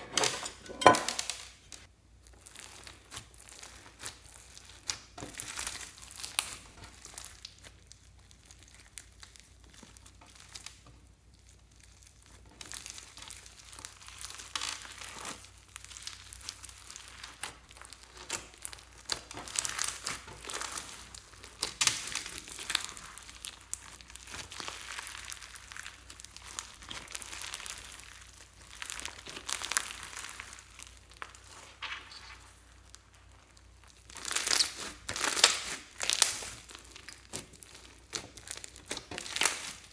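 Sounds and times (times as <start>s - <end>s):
slime squishing with sticky pops: 1.7s - 39.9s.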